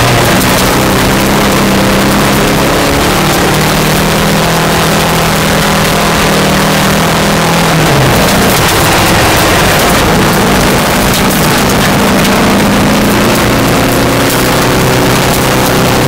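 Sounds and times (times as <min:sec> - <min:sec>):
car engine from inside: 0:00.0 - 0:16.0
tyres on gravel: 0:00.0 - 0:16.0.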